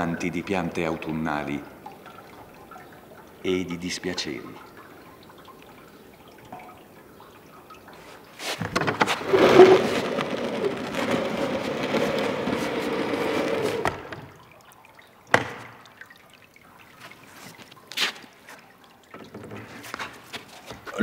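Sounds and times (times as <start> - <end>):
rushing water-like sound: 0.0 - 21.0.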